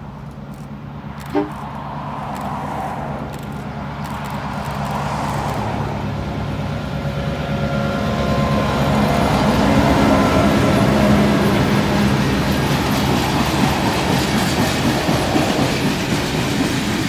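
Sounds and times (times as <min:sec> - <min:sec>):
diesel locomotive engine drone: 0:00.0 - 0:17.0
train carriages rumbling over rails: 0:00.0 - 0:17.0.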